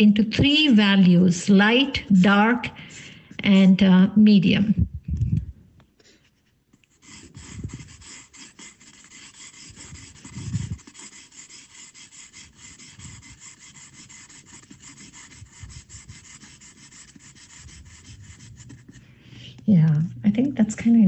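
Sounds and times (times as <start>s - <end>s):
pencil scratching on paper: 0.0s - 4.0s, 6.2s - 19.2s.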